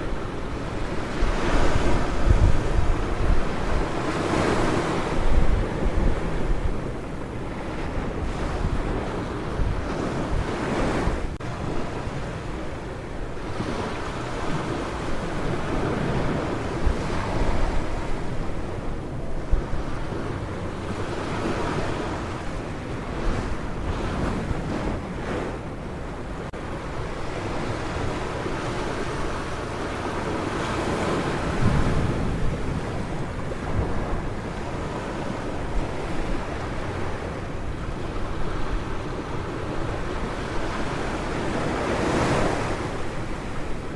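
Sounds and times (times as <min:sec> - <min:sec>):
ocean surf breaking: 0:00.0 - 0:43.9
wind rumbling on microphone: 0:00.0 - 0:43.9.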